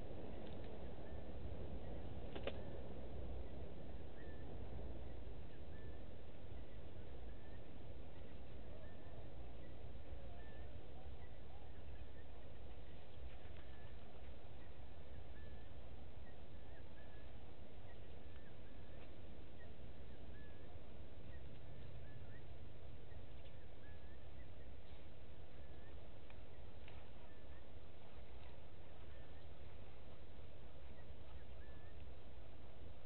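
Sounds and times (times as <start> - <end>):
bird chirping: 0.0 - 33.0
steady low rumble: 0.0 - 33.0.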